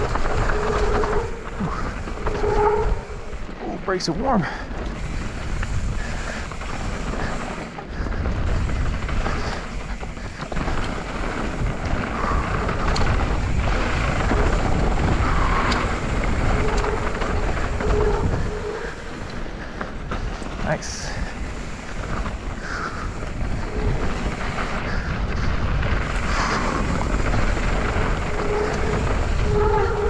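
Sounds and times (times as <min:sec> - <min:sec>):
brake squeals: 0:00.0 - 0:07.8, 0:09.3 - 0:20.0, 0:20.6 - 0:30.0
bike rattling over bumps: 0:00.0 - 0:30.0
tyres running over packed dirt: 0:00.0 - 0:30.0
wind buffeting microphone: 0:00.0 - 0:30.0.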